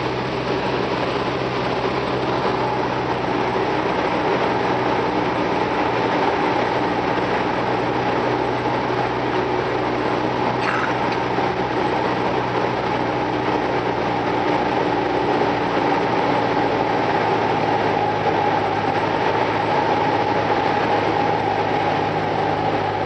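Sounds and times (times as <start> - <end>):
airplane engine and propeller drone: 0.0 - 23.0.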